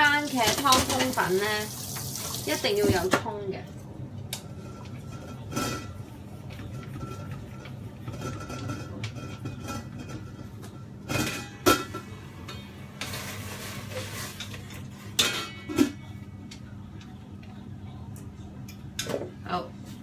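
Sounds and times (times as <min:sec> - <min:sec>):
steady low hum: 0:03.3 - 0:20.0.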